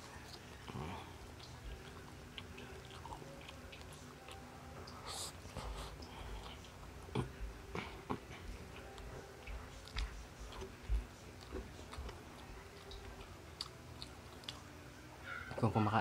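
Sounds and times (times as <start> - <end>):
person chewing food: 0.0 - 15.6.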